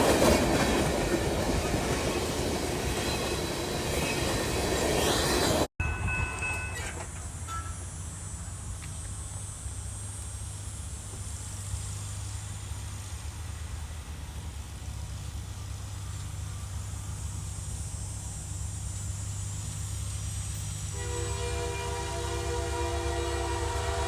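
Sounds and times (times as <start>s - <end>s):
diesel locomotive engine rumbling: 0.0s - 24.0s.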